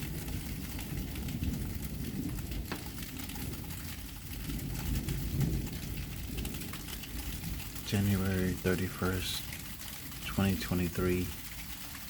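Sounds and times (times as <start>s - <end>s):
sleet pellets ticking: 2.3s - 12.0s.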